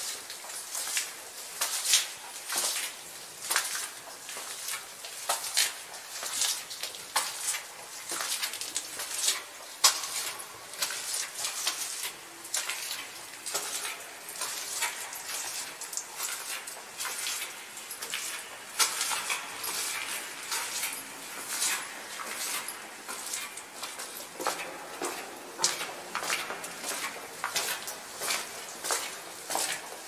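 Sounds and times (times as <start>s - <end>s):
footsteps on loose rocks in cave: 0.0s - 30.0s.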